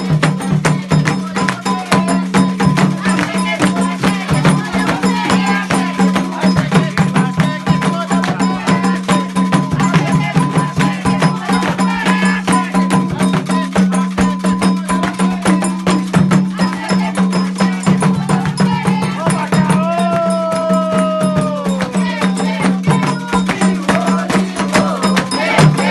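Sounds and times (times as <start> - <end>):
clanking bell: 0.0 - 25.9
drums in fast rhythm: 0.0 - 25.9
voices singing: 0.0 - 25.9.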